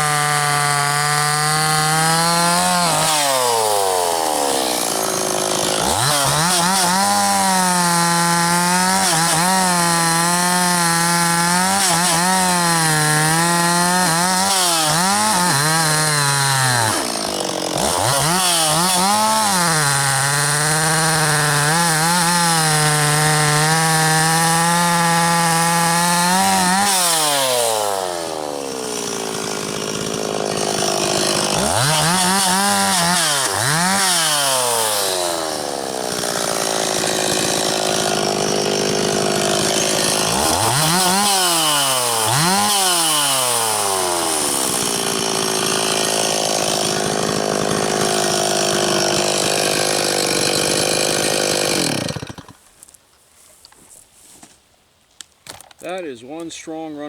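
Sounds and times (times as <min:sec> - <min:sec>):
chainsaw cutting logs: 0:00.0 - 0:54.0, 0:55.4 - 0:57.0.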